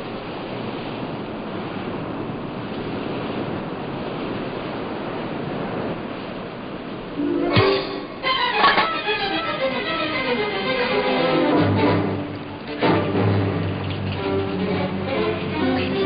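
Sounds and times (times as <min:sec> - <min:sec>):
surf washing in a sea cave: 0:00.0 - 0:16.0.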